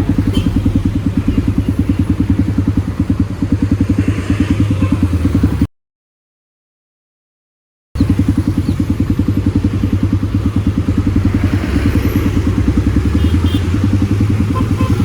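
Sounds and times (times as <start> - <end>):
motorcycle engine idling: 0.0 - 5.7, 8.0 - 15.0.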